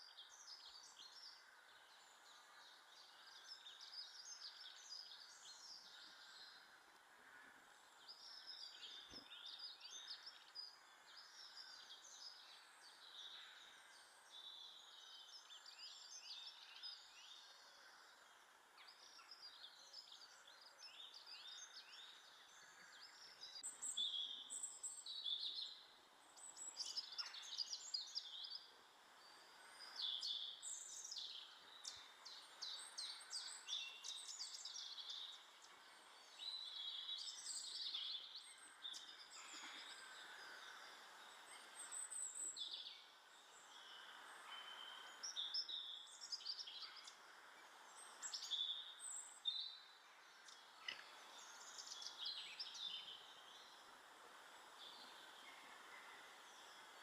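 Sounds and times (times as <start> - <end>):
faint steady hiss: 0.0 - 57.0
small birds chirping: 0.0 - 57.0.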